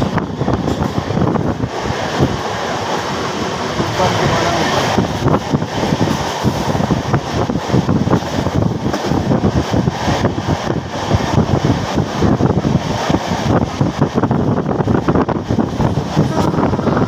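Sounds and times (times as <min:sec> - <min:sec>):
train rumble and rattle: 0:00.0 - 0:17.0
wind noise on microphone: 0:00.0 - 0:17.0.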